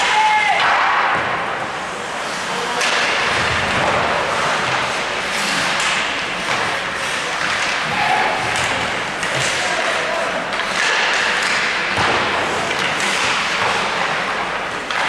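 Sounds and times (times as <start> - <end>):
knocks against rink boards: 0.0 - 1.5, 2.6 - 15.0.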